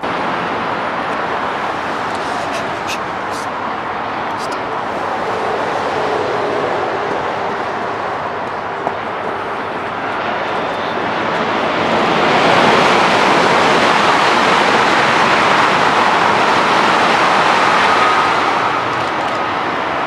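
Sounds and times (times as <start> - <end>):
train rumbling past on rails: 0.0 - 20.0.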